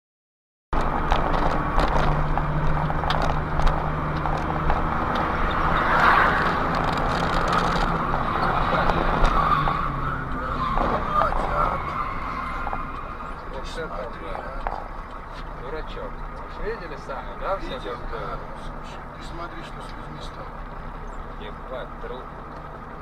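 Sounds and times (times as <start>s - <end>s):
car engine and road noise: 0.7s - 23.0s.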